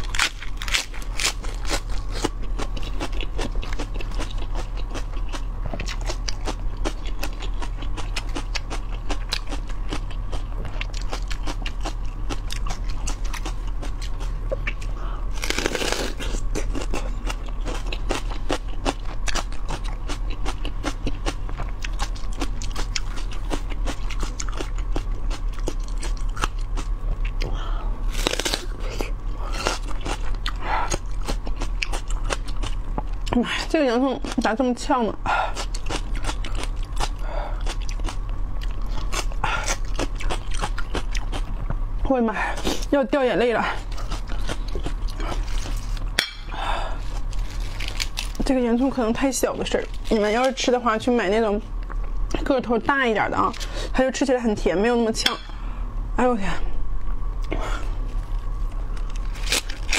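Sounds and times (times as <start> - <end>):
crunchy chewing of raw vegetables: 0.0 - 41.9, 43.6 - 50.6, 57.2 - 59.9
steady electrical hum: 0.0 - 59.9.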